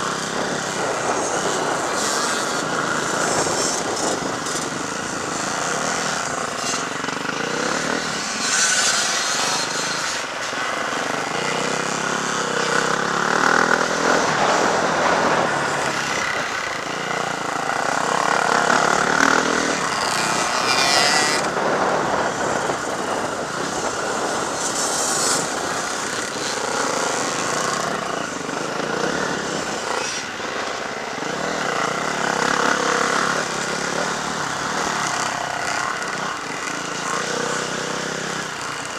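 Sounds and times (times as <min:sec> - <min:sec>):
motocross motorcycles racing: 0:00.0 - 0:38.9.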